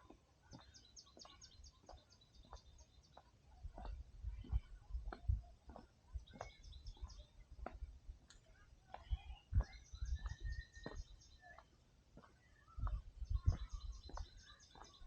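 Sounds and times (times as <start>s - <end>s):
footsteps on forest trail: 0.0s - 8.3s, 8.9s - 15.0s
small birds chirping: 0.0s - 15.0s.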